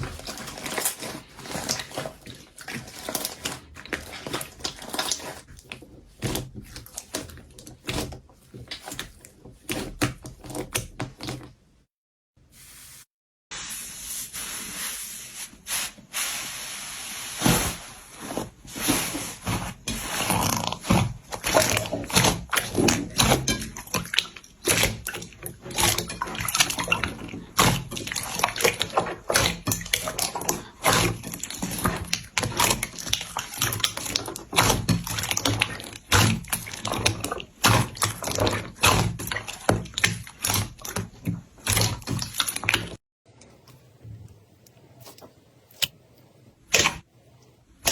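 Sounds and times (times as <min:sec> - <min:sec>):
slime squelching by hand: 0:00.0 - 0:11.6, 0:13.6 - 0:43.0.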